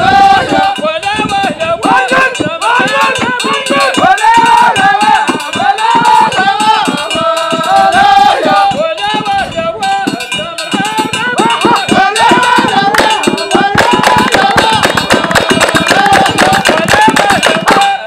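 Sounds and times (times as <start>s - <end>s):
fast hand drum beats: 0.0s - 18.0s.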